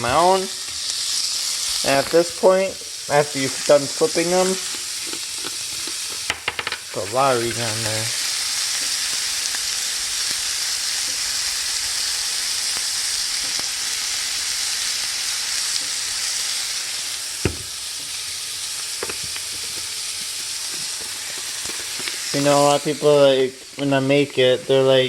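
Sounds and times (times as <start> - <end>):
patties sizzling in a skillet: 0.0 - 25.0.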